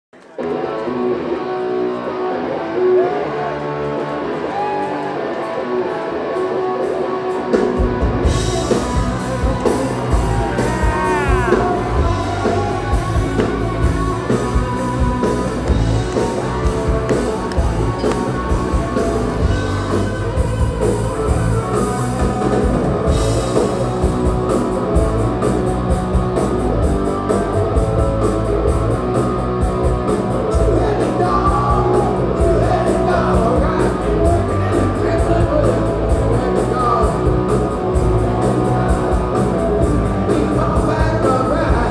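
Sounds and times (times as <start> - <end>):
bass guitar: 0.2 - 41.9
drums: 0.2 - 41.9
electric guitar riff: 0.2 - 41.9.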